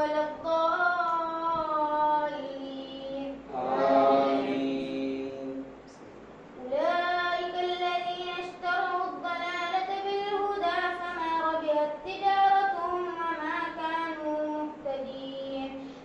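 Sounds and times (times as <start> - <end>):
boy chanting recitation: 0.0 - 6.0, 6.6 - 16.0.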